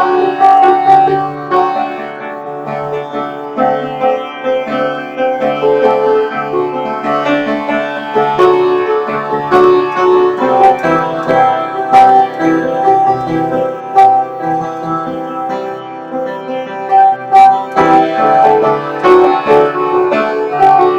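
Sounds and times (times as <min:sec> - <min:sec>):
keyboard notes: 0:00.0 - 0:20.9.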